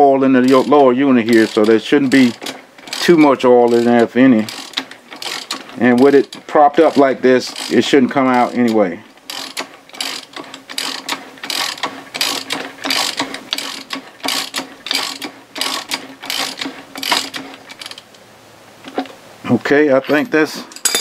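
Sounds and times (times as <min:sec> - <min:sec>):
socket wrench ratcheting: 0:00.4 - 0:18.1.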